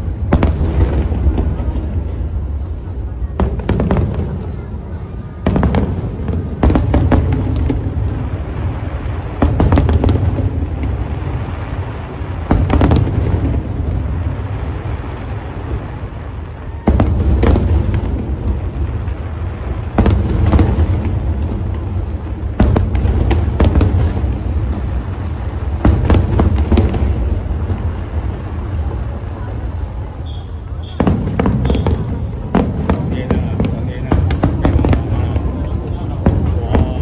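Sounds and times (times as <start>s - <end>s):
fireworks booming: 0.0s - 37.0s
fireworks crackling: 0.0s - 37.0s.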